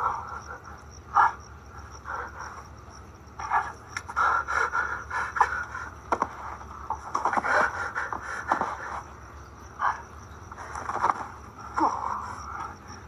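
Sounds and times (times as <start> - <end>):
people panting: 0.0 - 2.8, 3.4 - 13.0.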